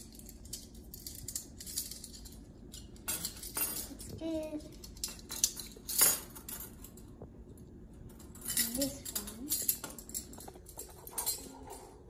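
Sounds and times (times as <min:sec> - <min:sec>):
metal spoons jangling: 0:00.0 - 0:07.0, 0:08.2 - 0:11.9.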